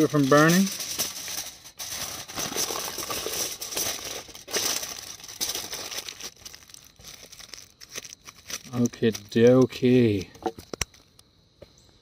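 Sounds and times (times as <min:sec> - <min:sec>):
aluminium foil crinkling: 0:00.0 - 0:11.2.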